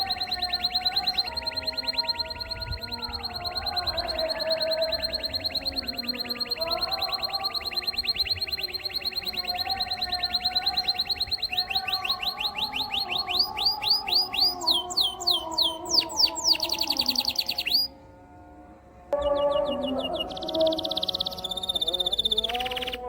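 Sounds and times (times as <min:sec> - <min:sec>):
canary singing: 0:00.0 - 0:18.4, 0:19.1 - 0:23.0.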